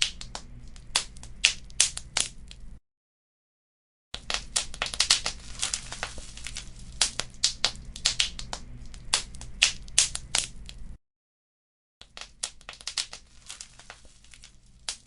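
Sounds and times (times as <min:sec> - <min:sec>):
wood fire crackling: 0:00.0 - 0:02.8, 0:04.2 - 0:11.0, 0:12.1 - 0:15.0.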